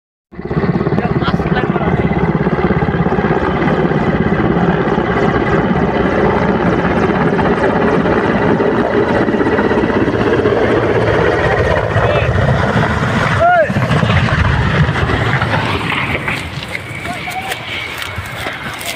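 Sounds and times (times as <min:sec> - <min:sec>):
helicopter rotor beating: 0:00.3 - 0:18.9
turbine engines whining: 0:00.4 - 0:18.9.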